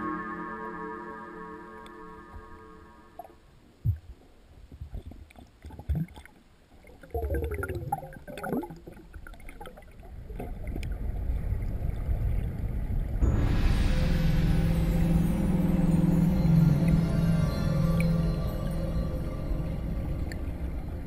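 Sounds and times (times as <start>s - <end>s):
underwater flowing water rumble: 1.8s - 21.0s.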